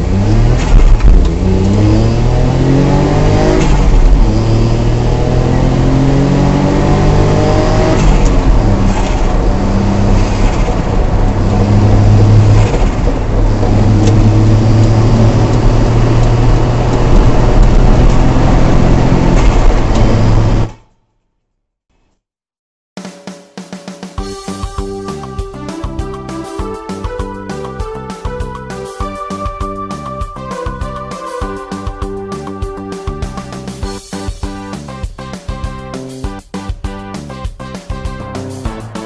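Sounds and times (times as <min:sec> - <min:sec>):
vehicle engine accelerating: 0:00.0 - 0:20.8, 0:24.7 - 0:36.2, 0:37.9 - 0:39.0
tyre and road noise: 0:00.0 - 0:20.9, 0:24.7 - 0:39.0.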